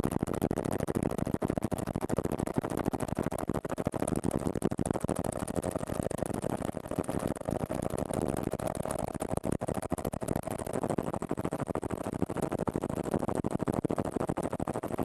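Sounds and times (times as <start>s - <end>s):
helicopter rotor chop: 0.0s - 15.0s.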